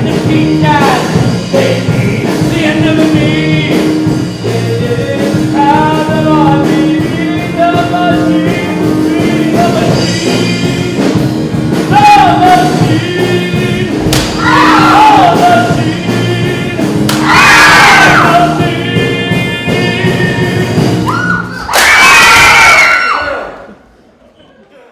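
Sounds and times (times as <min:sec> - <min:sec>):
instrumental accompaniment: 0:00.0 - 0:21.6
person singing: 0:00.0 - 0:21.6.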